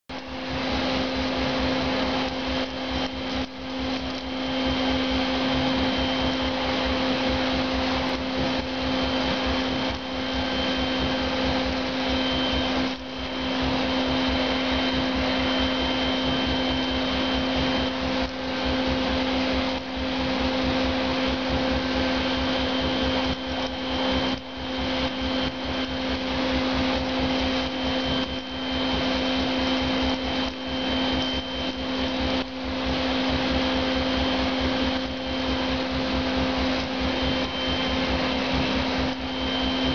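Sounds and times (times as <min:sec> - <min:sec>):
insulation blowing machine running: 0:00.1 - 0:39.9.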